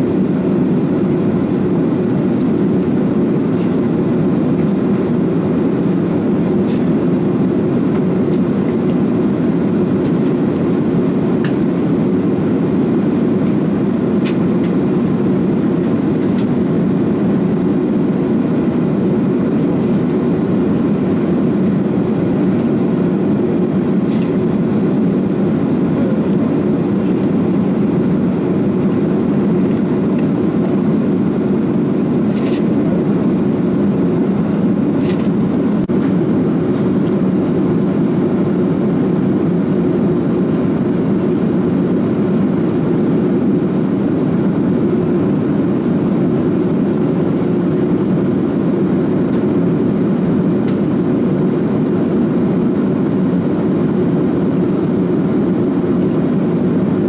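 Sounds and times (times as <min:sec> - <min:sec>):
aircraft cabin engine rumble: 0:00.0 - 0:57.0.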